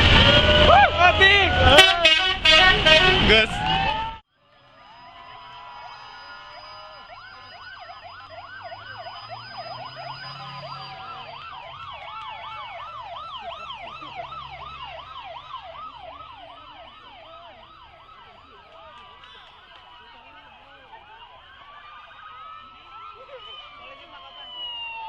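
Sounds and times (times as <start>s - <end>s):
sirens yelping: 0.0s - 25.0s.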